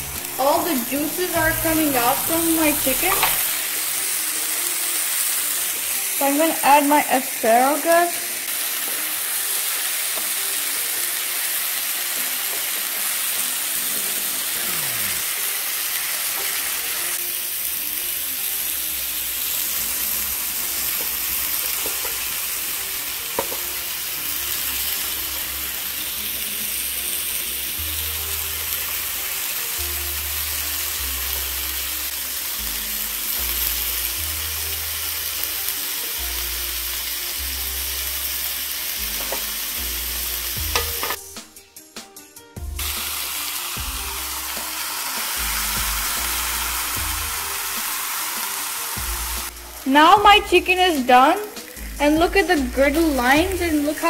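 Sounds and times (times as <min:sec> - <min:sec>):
food sizzling on a griddle: 0:00.0 - 0:41.4, 0:42.7 - 0:54.0
soft background music: 0:00.0 - 0:54.0.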